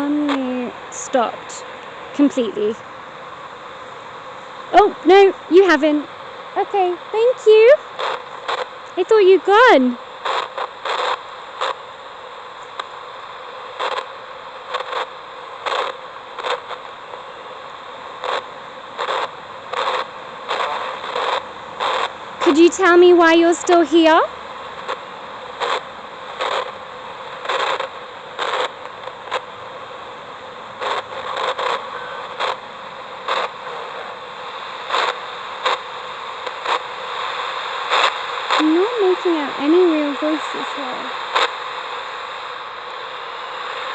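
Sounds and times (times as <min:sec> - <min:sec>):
radio static hiss: 0:00.0 - 0:43.9
short noise bursts: 0:00.0 - 0:43.9.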